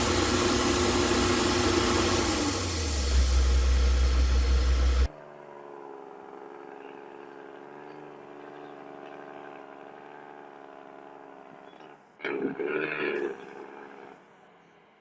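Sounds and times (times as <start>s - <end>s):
loud deep engine rumble: 0.0s - 12.1s
heavy machinery engine hum: 0.0s - 15.0s.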